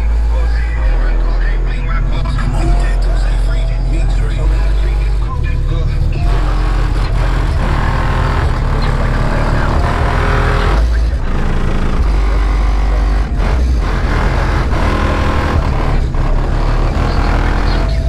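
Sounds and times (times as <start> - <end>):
hip-hop beat with booming bass: 0.0 - 18.0.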